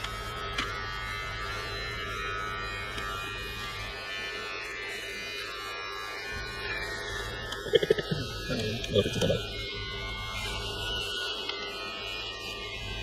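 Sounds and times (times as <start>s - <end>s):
electric trimmer buzzing: 0.0s - 13.0s.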